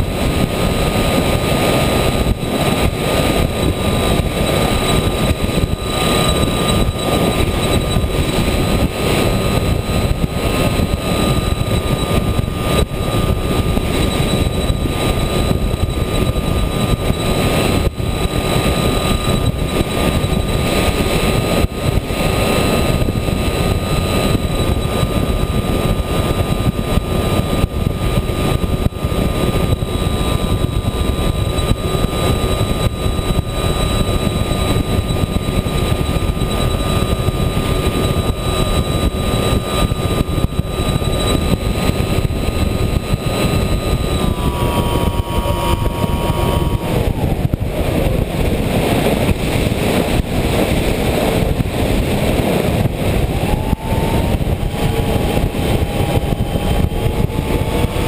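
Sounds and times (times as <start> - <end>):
model plane motor whining: 0.0 - 58.0
wind rushing: 0.0 - 58.0.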